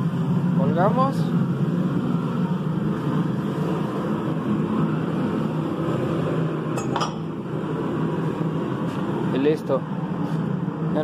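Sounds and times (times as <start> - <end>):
gas burner burning: 0.0 - 11.0.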